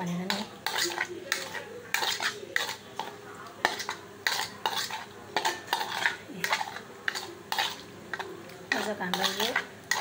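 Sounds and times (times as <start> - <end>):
spoon scraping plastic bowl: 0.3 - 10.0.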